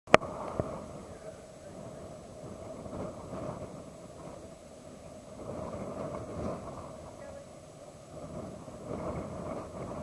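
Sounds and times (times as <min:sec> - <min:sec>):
wind gusting on microphone: 0:00.1 - 0:10.0.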